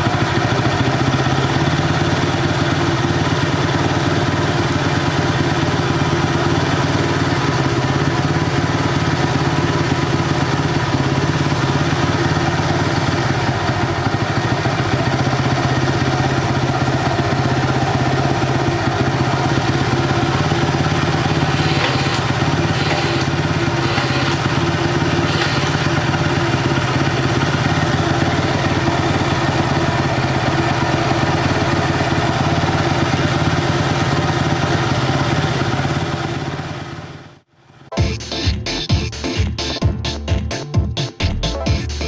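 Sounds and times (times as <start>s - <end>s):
motorcycle engine running: 0.0s - 38.1s.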